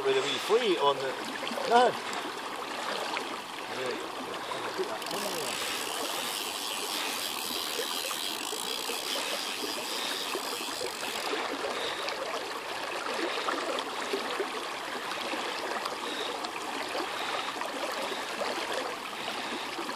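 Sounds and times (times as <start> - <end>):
river water babbling over stones: 0.0 - 19.9.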